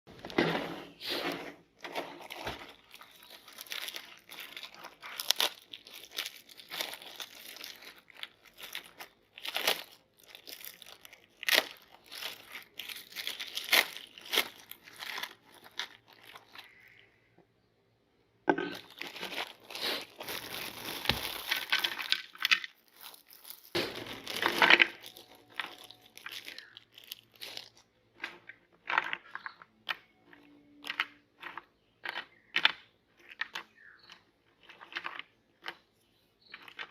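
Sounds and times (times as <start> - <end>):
cookies crunching in grinder: 0.1 - 17.1, 18.6 - 36.9.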